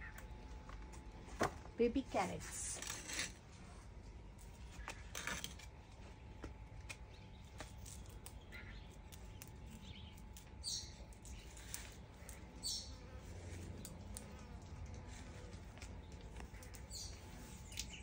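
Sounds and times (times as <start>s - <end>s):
rustling of soil and foliage: 0.5s - 18.0s.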